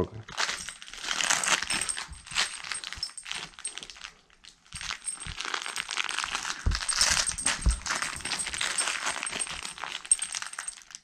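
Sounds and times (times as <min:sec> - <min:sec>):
metallic jingling: 0:00.3 - 0:11.0
rustling and soft knocks: 0:00.4 - 0:04.1, 0:04.8 - 0:11.0.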